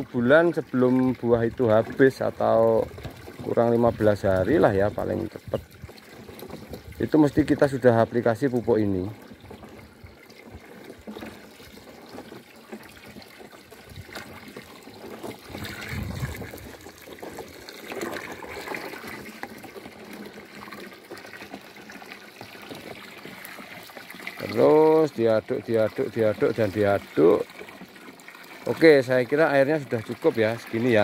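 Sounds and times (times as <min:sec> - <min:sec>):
hose water running into drum: 0:00.0 - 0:31.0
liquid sloshing: 0:00.0 - 0:31.0.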